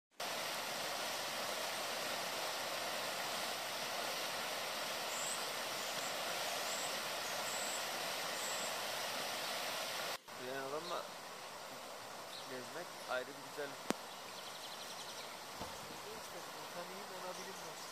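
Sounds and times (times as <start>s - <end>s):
water rushing over rocks: 0.1s - 17.9s.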